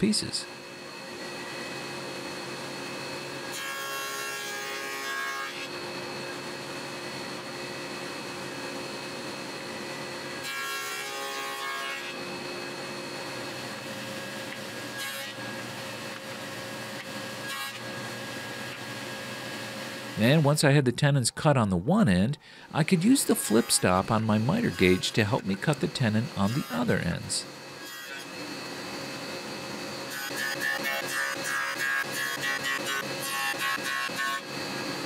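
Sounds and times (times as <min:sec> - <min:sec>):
table saw cutting wood: 0:00.0 - 0:20.8, 0:22.6 - 0:35.0.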